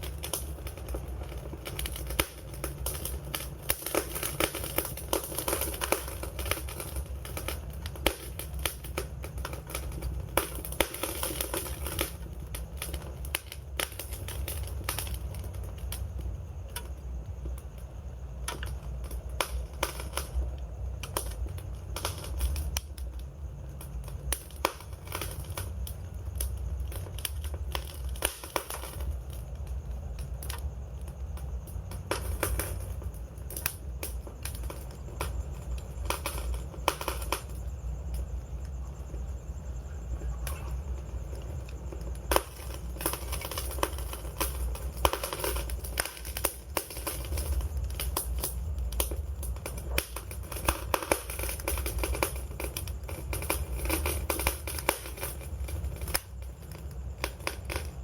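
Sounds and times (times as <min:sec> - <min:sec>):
low rumble of burning: 0:00.0 - 0:58.0
wood fire crackling and popping: 0:00.0 - 0:58.0.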